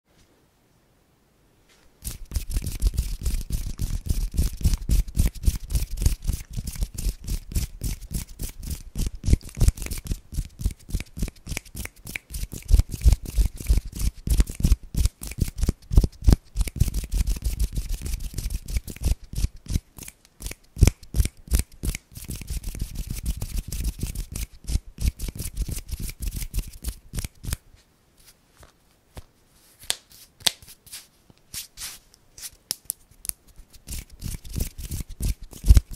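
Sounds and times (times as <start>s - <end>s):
hands rubbing and fluttering: 1.7s - 27.6s, 28.2s - 35.9s.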